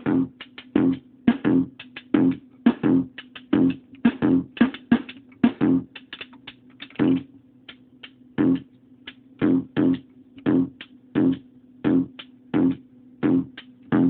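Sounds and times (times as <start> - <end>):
distorted drum machine hits: 0.0 - 7.3, 9.4 - 14.0.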